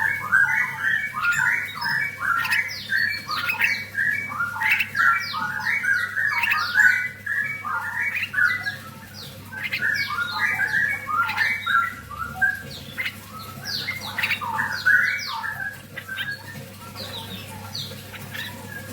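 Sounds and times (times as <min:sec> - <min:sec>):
birds calling in short notes: 0:00.0 - 0:18.9.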